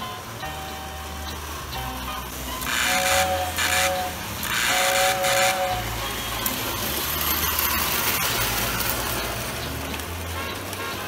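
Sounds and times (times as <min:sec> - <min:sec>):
toy train running on track: 0:00.0 - 0:11.0
toy train whistle: 0:00.0 - 0:11.0.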